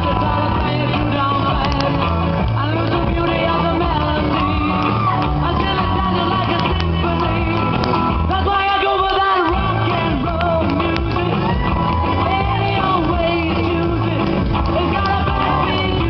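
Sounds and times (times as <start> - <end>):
man singing into a microphone: 0.0 - 7.7, 8.3 - 11.6, 12.2 - 16.0
amplified rock and roll music: 0.0 - 16.0.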